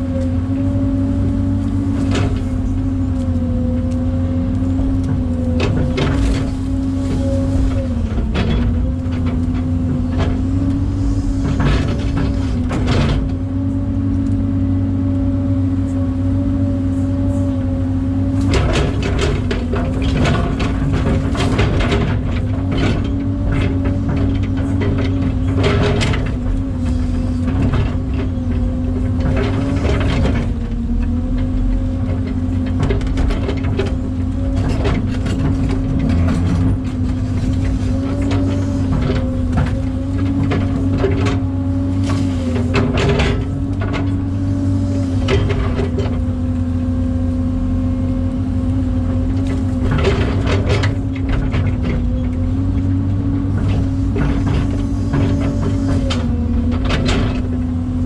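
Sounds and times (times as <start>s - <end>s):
excavator diesel engine droning: 0.0s - 58.0s
excavator digging clatter: 0.0s - 58.0s.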